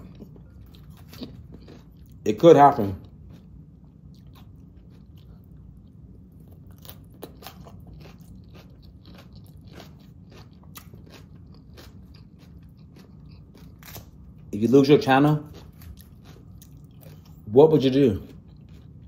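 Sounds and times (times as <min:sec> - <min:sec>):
person chewing crunchy salad: 0:00.0 - 0:19.0.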